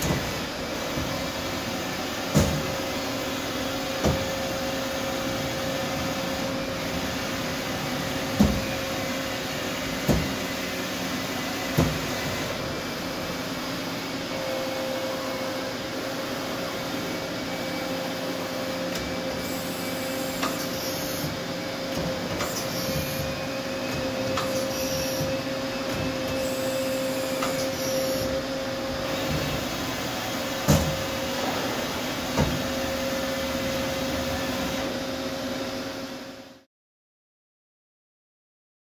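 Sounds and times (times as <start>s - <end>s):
lathe mechanical hum: 0.0s - 36.6s.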